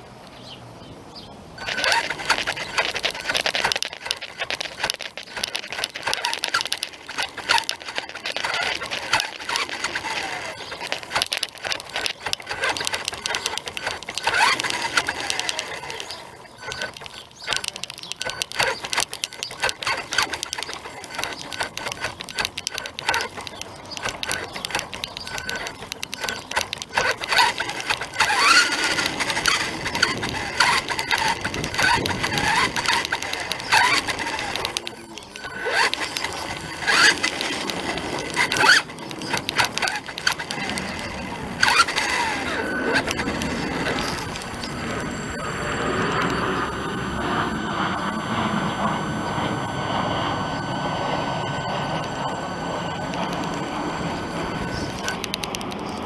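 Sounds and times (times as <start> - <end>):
rc car motor buzzing and whining: 1.6 - 56.0.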